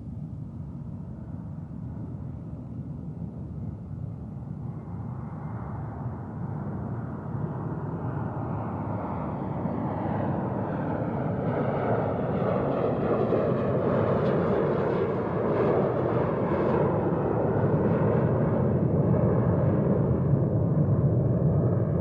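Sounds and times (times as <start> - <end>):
airplane engine roar: 0.0 - 22.0.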